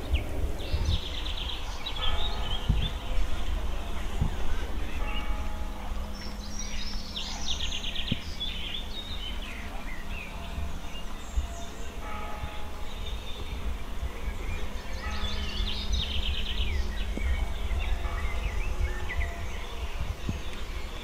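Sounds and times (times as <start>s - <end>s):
birds singing: 0.0s - 21.0s
steady low rumble: 0.0s - 21.0s.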